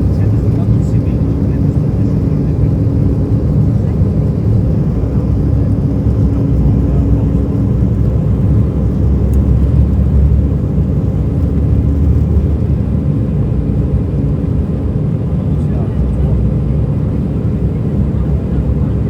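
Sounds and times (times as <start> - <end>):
jet cabin engine rumble: 0.0 - 19.0.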